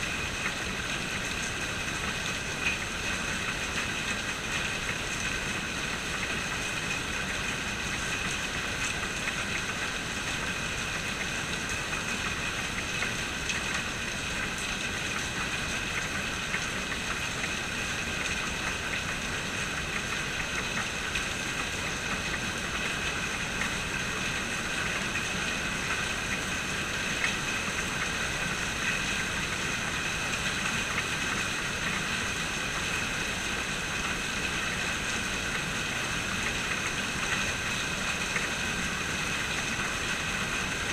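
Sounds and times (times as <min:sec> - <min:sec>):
raindrops ticking on hard surfaces: 0:00.0 - 0:40.9
steady rain falling: 0:00.0 - 0:40.9.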